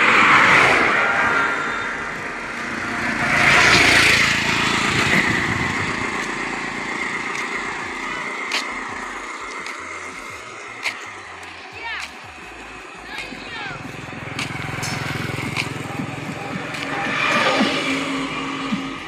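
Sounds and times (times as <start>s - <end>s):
auto-rickshaw passing: 0.0s - 19.0s
road traffic: 0.0s - 19.0s.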